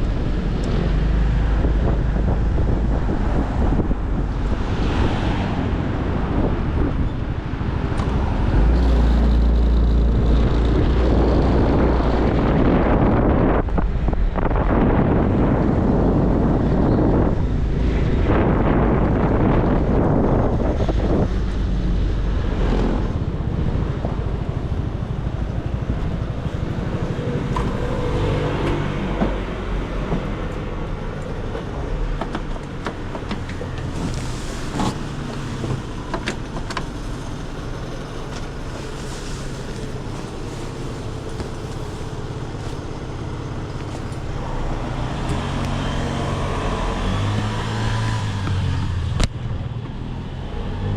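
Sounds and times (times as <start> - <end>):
road and wind noise: 0.0 - 50.9.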